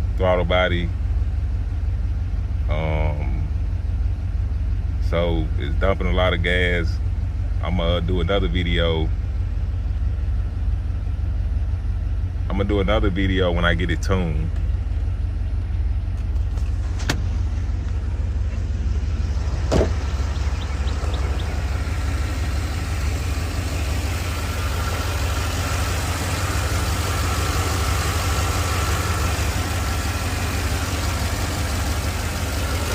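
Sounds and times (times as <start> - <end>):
engine idling high: 0.0 - 32.9.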